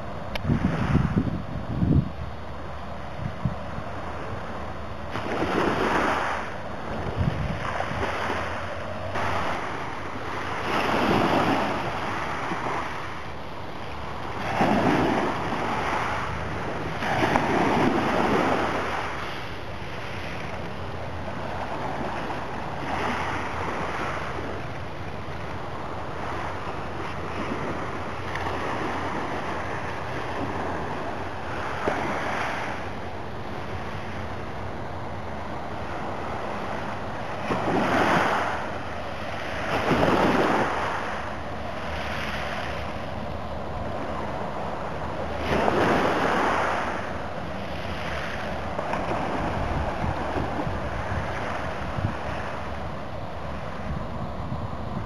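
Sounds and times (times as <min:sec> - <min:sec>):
waves washing onto beach: 0:00.0 - 0:55.0
wind on microphone: 0:00.0 - 0:55.0.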